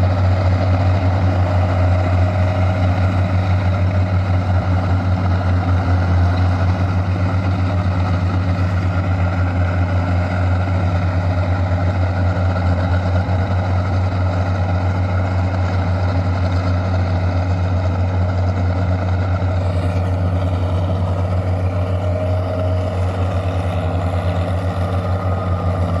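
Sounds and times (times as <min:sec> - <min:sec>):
tractor engine droning: 0:00.0 - 0:26.0.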